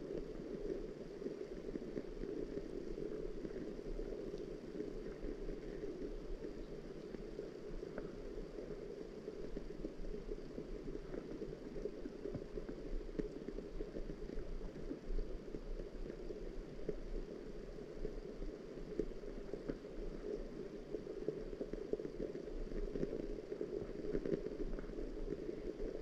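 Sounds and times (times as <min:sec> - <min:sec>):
muffled rain patter: 0:00.0 - 0:26.0.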